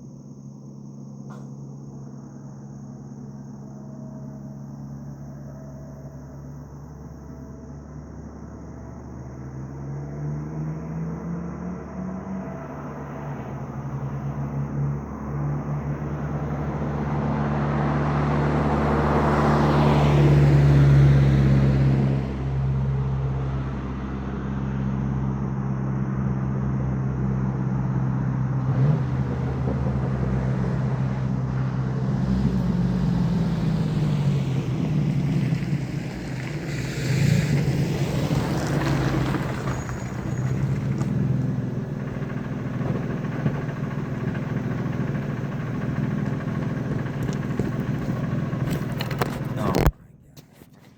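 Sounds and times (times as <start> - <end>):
truck engine through straight exhaust: 0.0 - 50.9.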